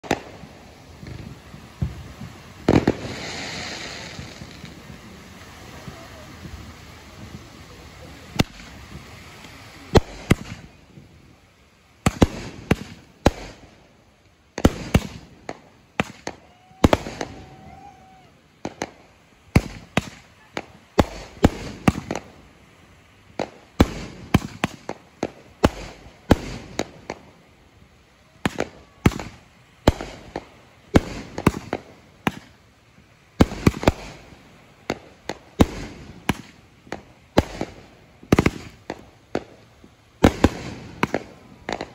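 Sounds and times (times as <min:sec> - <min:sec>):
fireworks bursting with bangs: 0:00.0 - 0:41.9.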